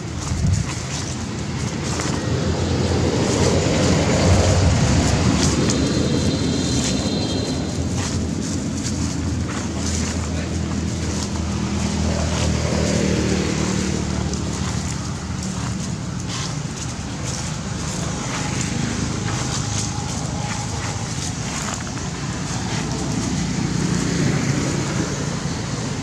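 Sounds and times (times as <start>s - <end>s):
outdoor noise: 0.0s - 26.0s
vehicle engine running: 0.0s - 26.0s.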